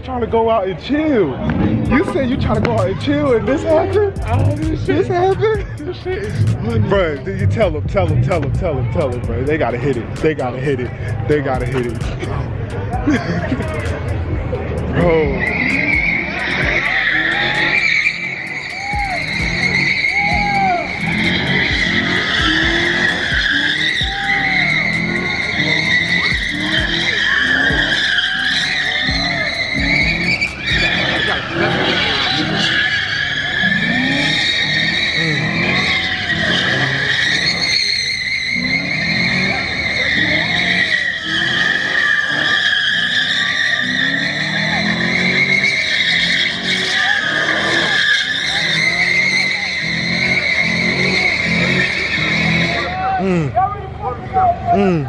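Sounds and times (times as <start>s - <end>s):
car engine revving: 0.0s - 55.0s
tyres squealing: 0.8s - 55.0s.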